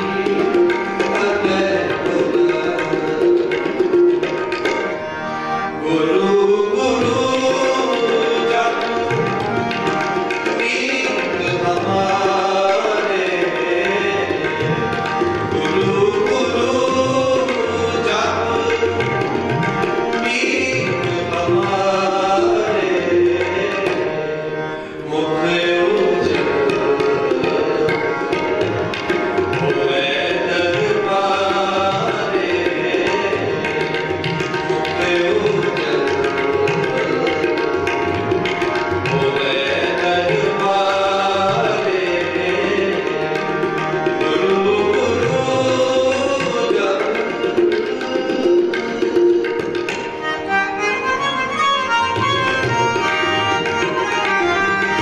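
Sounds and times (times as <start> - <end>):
harmonium: 0.0 - 55.0
man singing devotional song: 0.0 - 55.0
tabla drumming: 0.0 - 55.0.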